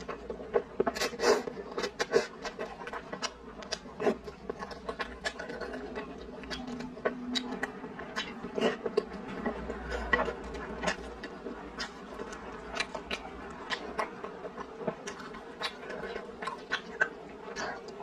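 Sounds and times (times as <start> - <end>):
chewing and slurping noodles: 0.0 - 18.0.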